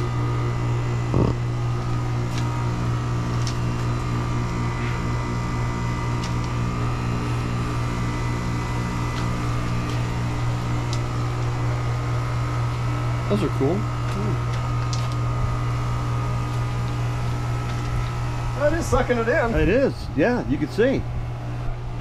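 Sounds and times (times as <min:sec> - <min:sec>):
air conditioner unit humming: 0:00.0 - 0:22.0.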